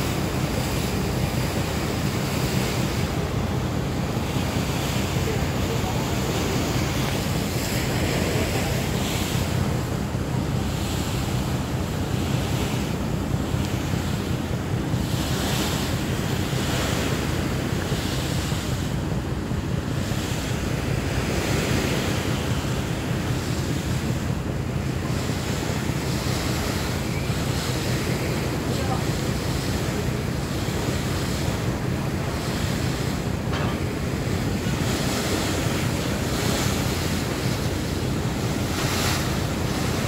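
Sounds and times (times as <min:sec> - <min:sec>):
river water rushing along hull: 0:00.0 - 0:40.0.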